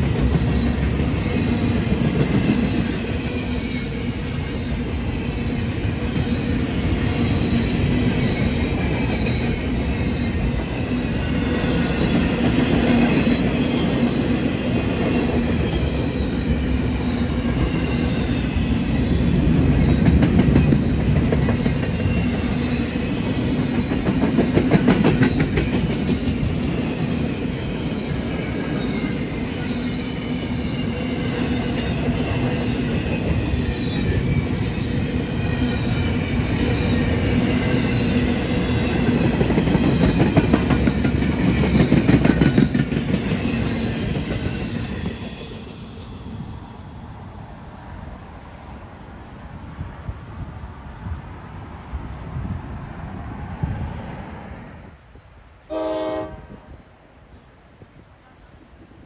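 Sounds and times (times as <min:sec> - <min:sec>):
train wheels rumbling on rails: 0:00.0 - 0:56.8.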